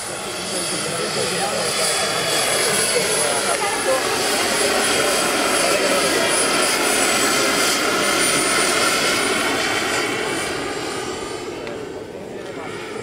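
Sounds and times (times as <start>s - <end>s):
helicopter rotor noise: 0.0s - 13.0s
high-pitched turbine whine: 0.0s - 13.0s.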